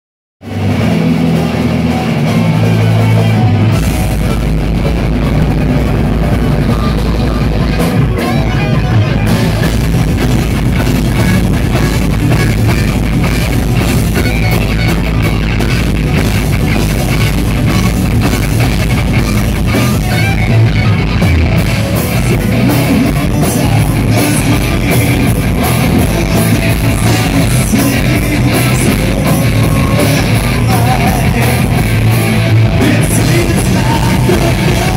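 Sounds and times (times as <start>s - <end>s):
bass guitar: 0.4s - 34.9s
distorted electric guitars: 0.4s - 34.9s
drum kit: 0.4s - 34.9s.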